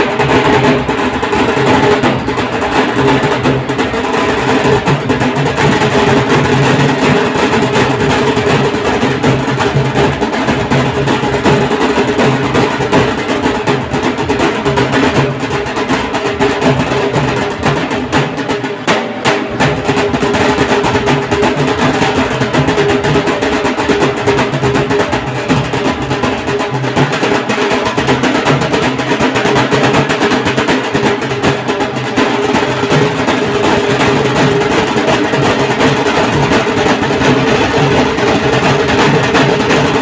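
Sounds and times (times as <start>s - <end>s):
dhol drums beating: 0.0s - 40.0s.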